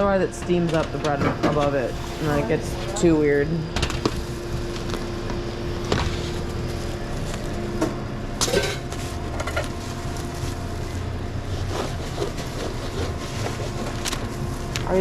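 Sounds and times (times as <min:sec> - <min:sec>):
kitchen equipment hum: 0:00.0 - 0:15.0.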